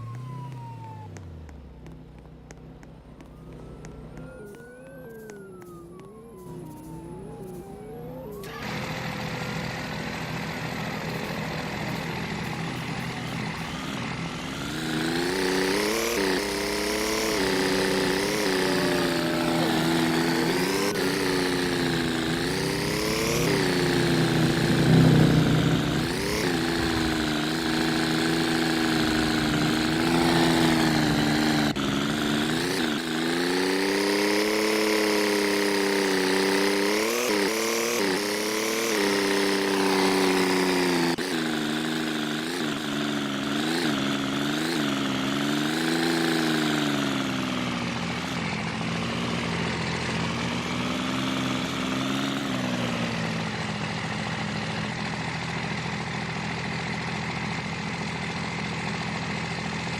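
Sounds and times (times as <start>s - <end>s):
vehicle engine revving: 0.0s - 55.7s.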